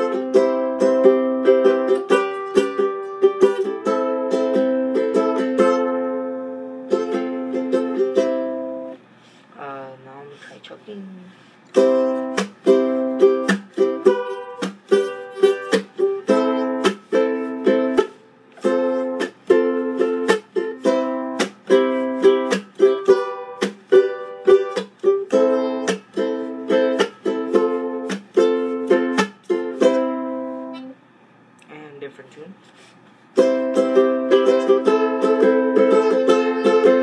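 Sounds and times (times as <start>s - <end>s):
ukulele strumming: 0.0s - 9.0s, 11.7s - 31.0s, 33.2s - 37.0s.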